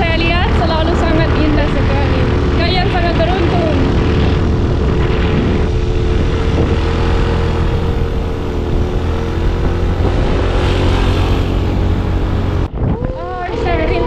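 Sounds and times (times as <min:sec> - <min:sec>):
motorbike engine running: 0:00.0 - 0:12.8
wind rumbling on microphone: 0:00.0 - 0:14.0.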